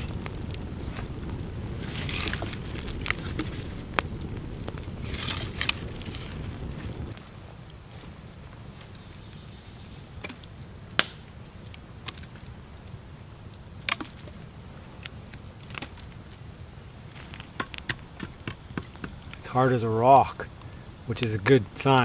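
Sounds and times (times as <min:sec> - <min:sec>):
campfire burning with pops: 0:00.0 - 0:22.0.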